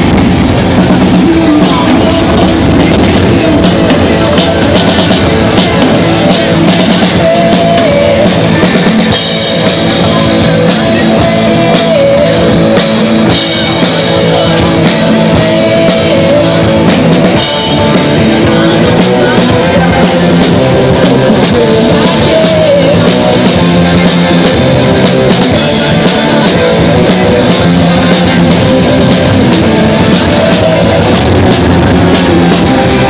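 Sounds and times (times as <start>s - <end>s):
rock band playing loudly: 0.0s - 33.0s.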